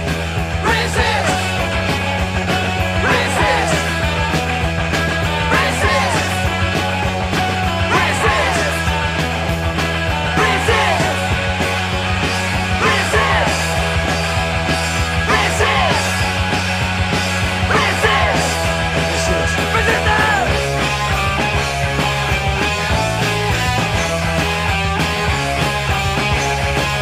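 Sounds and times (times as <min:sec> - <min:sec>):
high swooping guitar figure: 0:00.0 - 0:26.7
rock band playing: 0:00.0 - 0:27.0.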